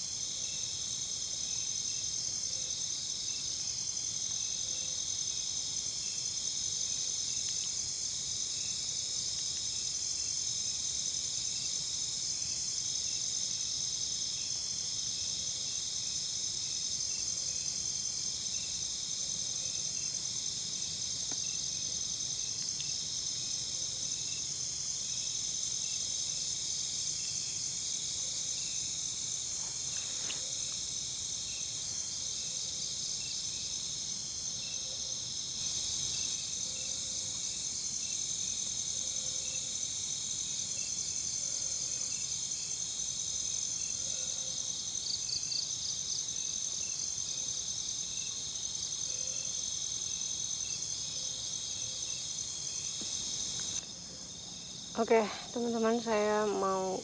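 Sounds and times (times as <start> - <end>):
insects chirring: 0.0 - 57.0
repeating insect call: 0.0 - 57.0.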